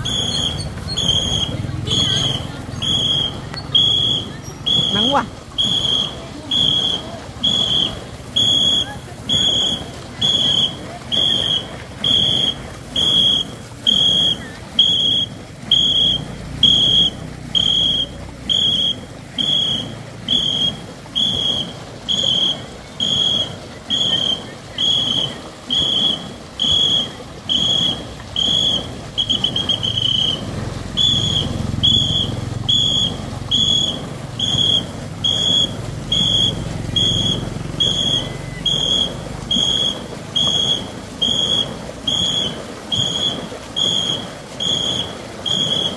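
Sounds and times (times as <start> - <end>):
crowd noise: 0.0 - 45.9
rush of water: 0.0 - 45.9
shrill whistle blasts: 0.0 - 45.9.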